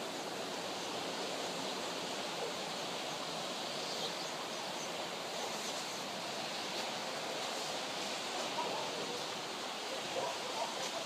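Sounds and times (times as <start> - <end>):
ocean surf washing in: 0.0 - 11.0.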